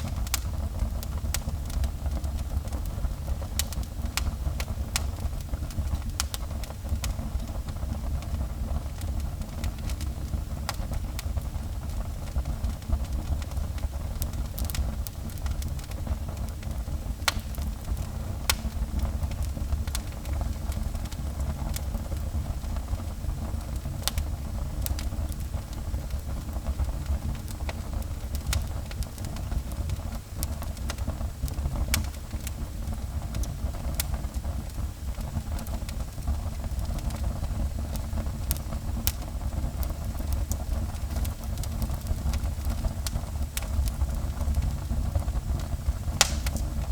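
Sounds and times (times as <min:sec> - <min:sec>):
fire low rumble: 0:00.0 - 0:46.9
wood crackling and popping: 0:00.0 - 0:46.9.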